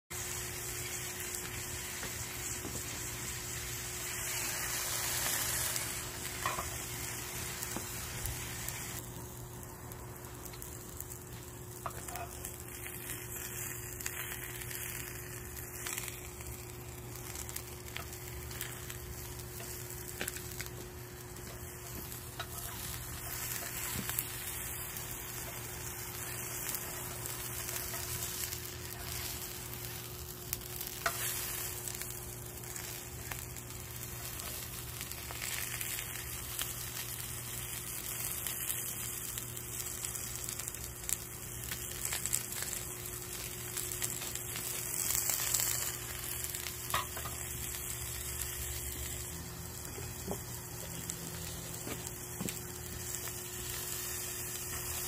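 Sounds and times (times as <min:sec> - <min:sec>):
intestines sizzling in a frying pan: 0:00.1 - 0:55.0.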